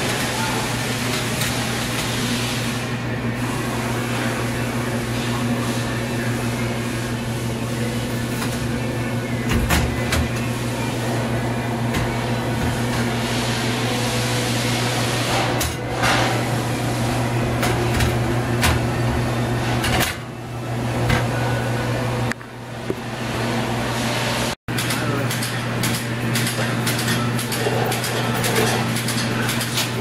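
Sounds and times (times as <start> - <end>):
low machine hum: 2.8 - 30.0.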